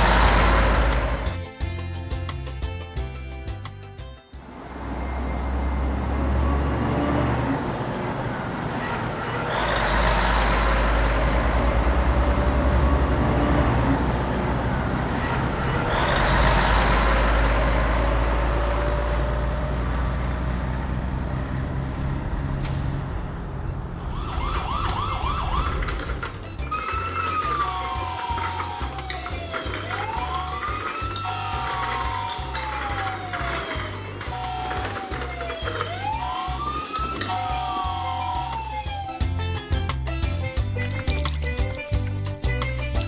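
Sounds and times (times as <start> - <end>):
truck engine rumbling: 0.0 - 43.0.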